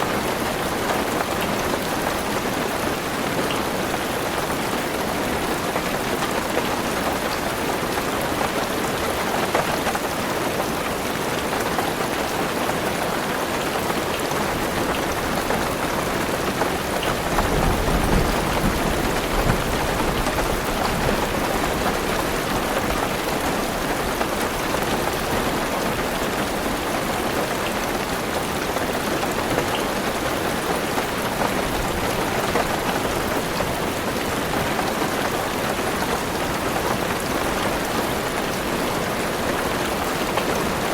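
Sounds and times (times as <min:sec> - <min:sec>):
rain drumming on car roof: 0:00.1 - 0:40.9.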